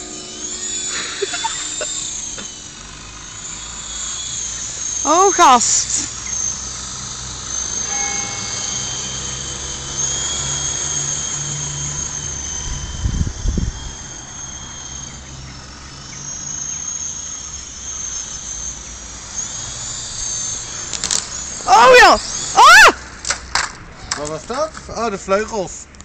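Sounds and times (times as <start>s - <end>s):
low rotor hum: 0.0s - 25.9s
rc helicopter motor whine: 0.0s - 26.0s.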